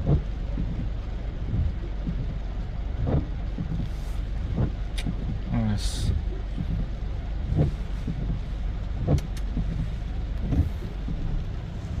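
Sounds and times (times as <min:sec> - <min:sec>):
short dull thumps: 0:00.0 - 0:02.4, 0:03.0 - 0:11.6
motor vehicle rumbling: 0:00.0 - 0:12.0.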